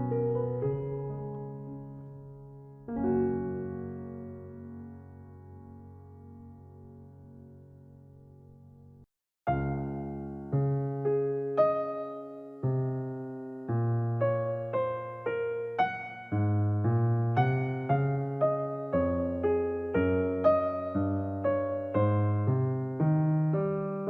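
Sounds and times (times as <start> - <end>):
piano piece: 0.0 - 24.0.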